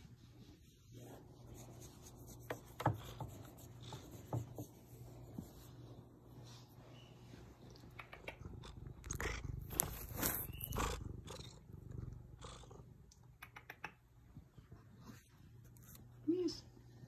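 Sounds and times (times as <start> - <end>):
cat purring: 0.4 - 15.4.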